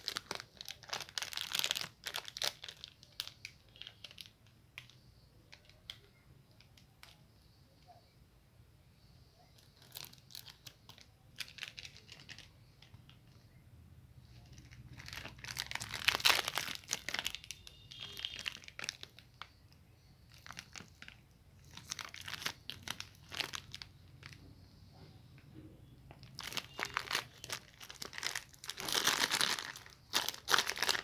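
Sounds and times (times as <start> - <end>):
plastic wrappers crinkling: 0.0 - 7.2, 9.5 - 13.6, 14.2 - 24.4, 26.0 - 31.0.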